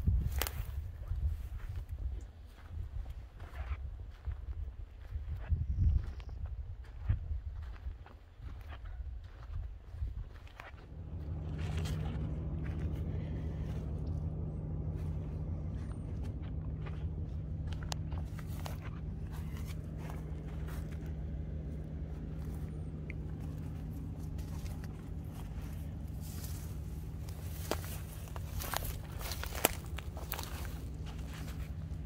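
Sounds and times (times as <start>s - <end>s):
footsteps on dry grass: 0.0s - 32.0s
steady low hum: 0.0s - 32.0s.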